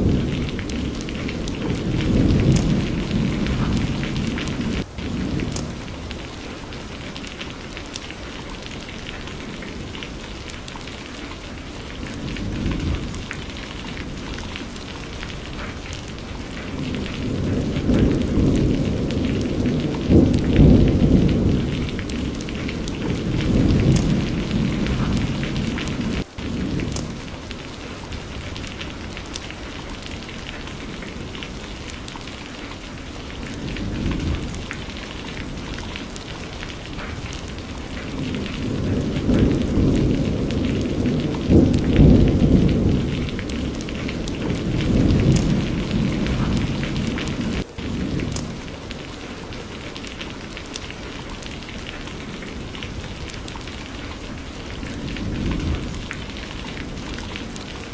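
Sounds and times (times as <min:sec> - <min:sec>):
distant thunder rumbling: 0:00.0 - 0:07.8, 0:11.4 - 0:57.9
steady rainfall: 0:00.0 - 0:57.9.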